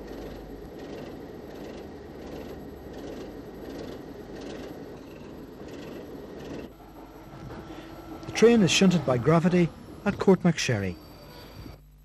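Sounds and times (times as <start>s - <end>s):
train rumbling and clattering: 0.0s - 11.3s.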